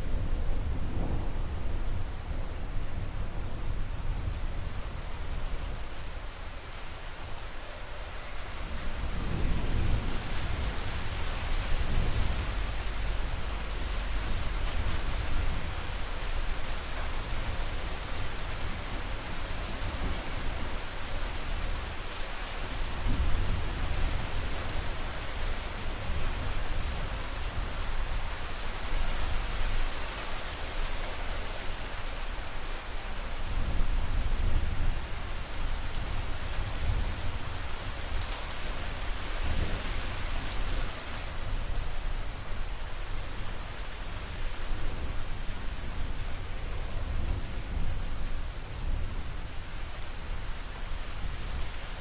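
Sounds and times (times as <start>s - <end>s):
dense rain falling: 0.0s - 52.0s.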